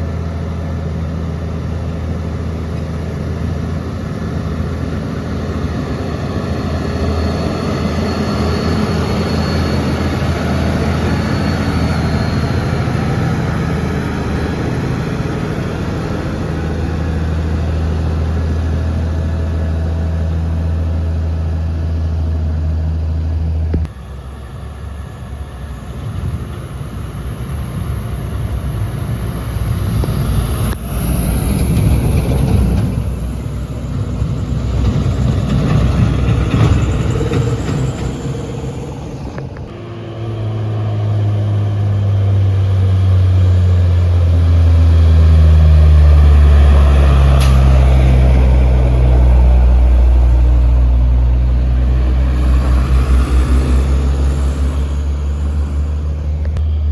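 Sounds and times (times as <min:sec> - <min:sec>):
diesel truck engine drone: 0:00.0 - 0:56.9
vehicle approaching: 0:00.0 - 0:56.9.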